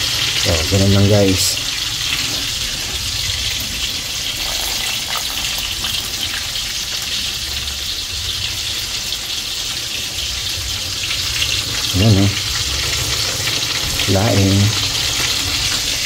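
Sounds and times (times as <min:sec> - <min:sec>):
liquid boiling: 0:00.0 - 0:16.0
pots sizzling on stove: 0:00.0 - 0:16.0.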